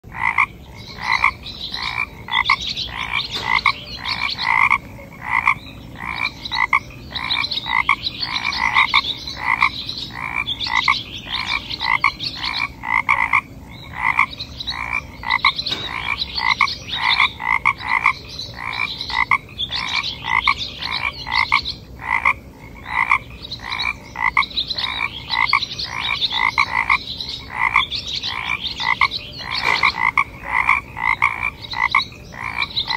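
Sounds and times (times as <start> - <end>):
frog croaking: 0.0 - 32.9.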